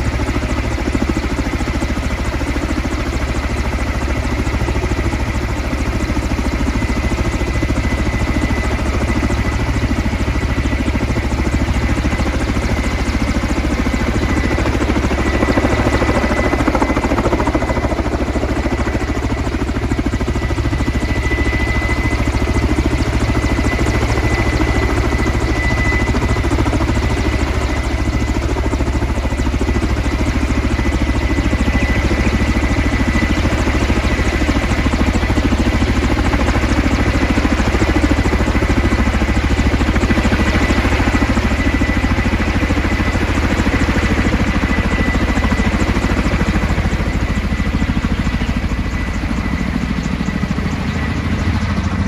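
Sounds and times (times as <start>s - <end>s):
helicopter rotors beating: 0.0s - 52.0s
turbine whine: 0.0s - 52.0s.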